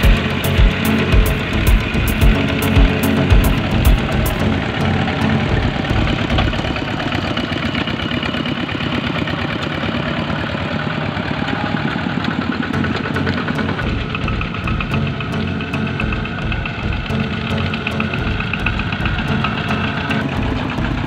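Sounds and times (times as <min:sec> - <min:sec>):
diesel engine chugging: 0:00.0 - 0:21.0.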